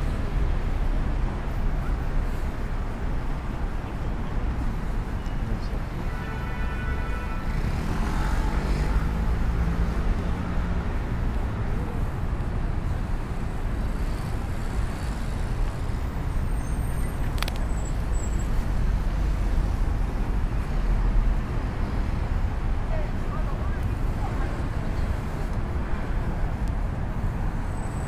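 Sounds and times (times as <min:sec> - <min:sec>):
passing cars and buses: 0:00.0 - 0:28.0.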